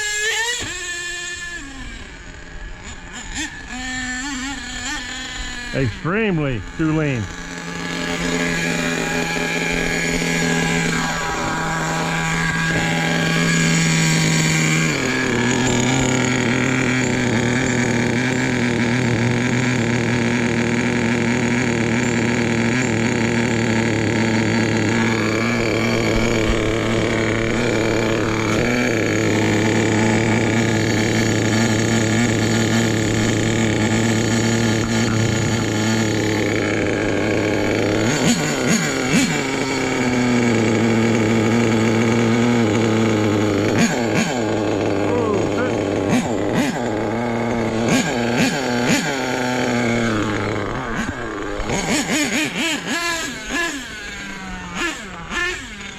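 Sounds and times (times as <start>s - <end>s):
model truck engine running fast: 0.0s - 55.9s.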